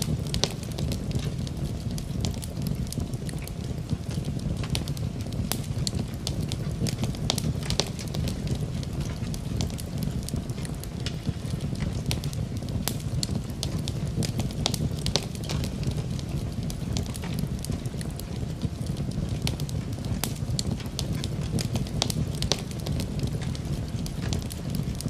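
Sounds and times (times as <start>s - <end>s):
rain: 0.0s - 25.0s
wood fire crackling and popping: 0.0s - 25.0s.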